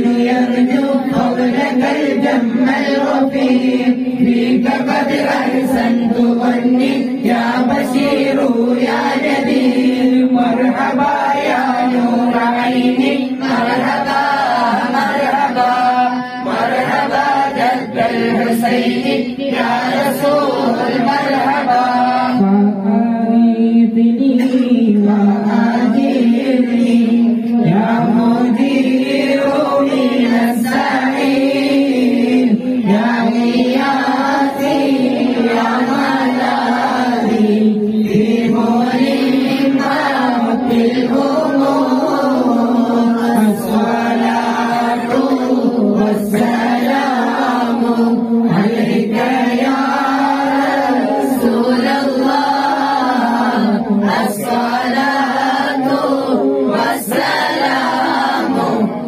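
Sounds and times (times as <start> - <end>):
group chanting in unison: 0.0 - 59.0.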